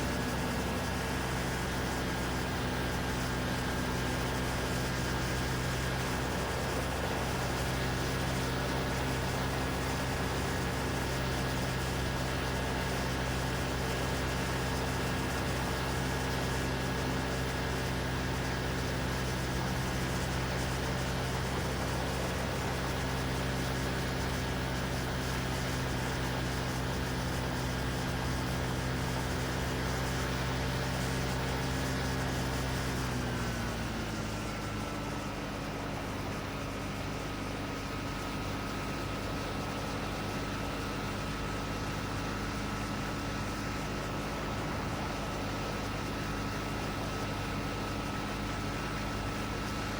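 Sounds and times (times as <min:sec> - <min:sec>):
ultralight aircraft engine and propeller: 0:00.0 - 0:49.9.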